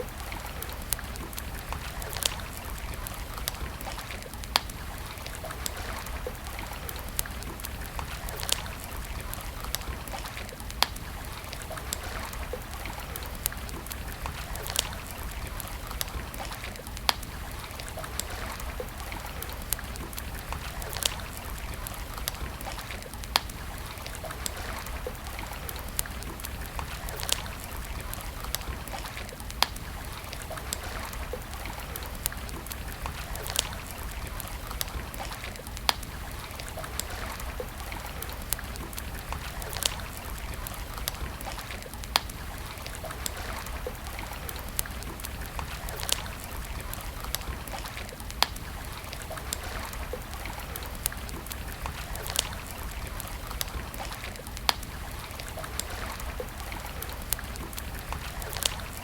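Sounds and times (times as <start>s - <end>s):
wood campfire crackling: 0.0s - 59.0s.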